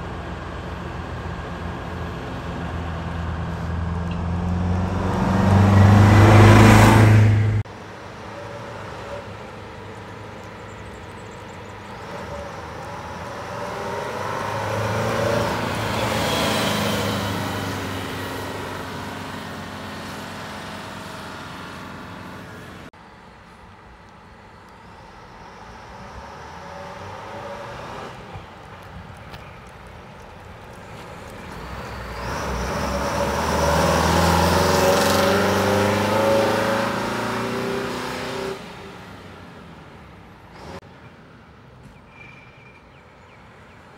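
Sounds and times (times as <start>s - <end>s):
coach diesel engines passing: 0.0s - 43.9s.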